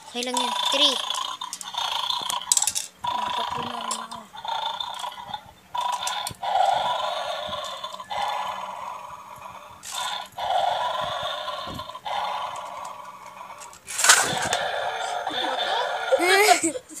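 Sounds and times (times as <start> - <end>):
electronic toy dog sound: 0.2 - 16.7.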